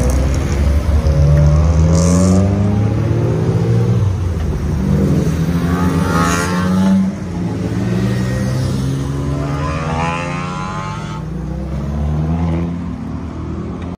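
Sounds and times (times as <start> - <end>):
race cars revving past: 0.0 - 13.9.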